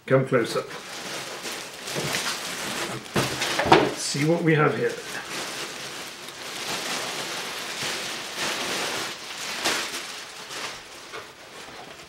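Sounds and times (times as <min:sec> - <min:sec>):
plastic bag crinkling: 0:00.6 - 0:12.0.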